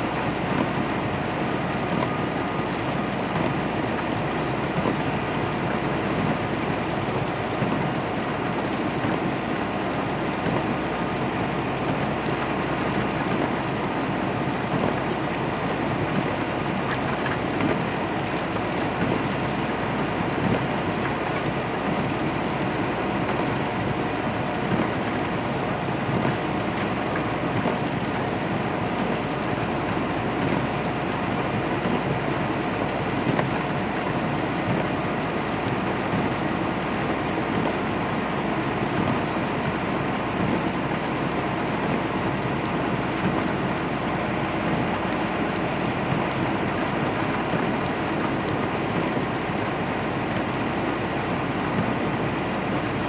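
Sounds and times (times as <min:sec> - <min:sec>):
tyres hissing on wet road: 0:00.0 - 0:53.0.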